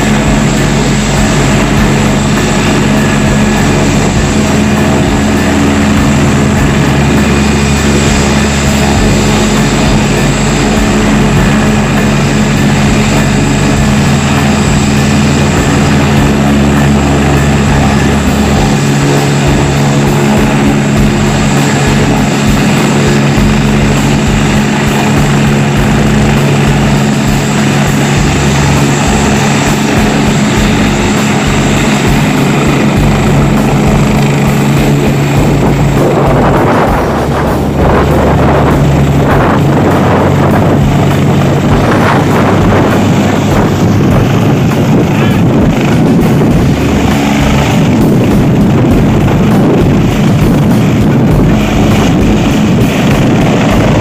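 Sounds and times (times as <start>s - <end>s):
helicopter turbine and rotor hum: 0.0s - 54.0s.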